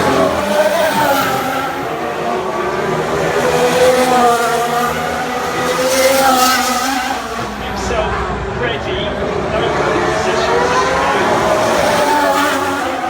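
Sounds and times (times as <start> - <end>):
racing car engine: 0.0 - 13.0.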